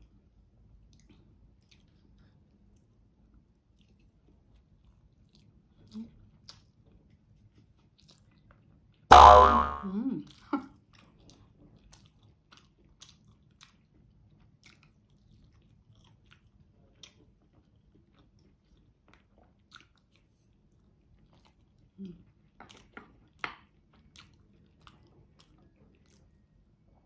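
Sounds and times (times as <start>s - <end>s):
soft chewing: 0.0s - 9.1s, 10.2s - 27.0s.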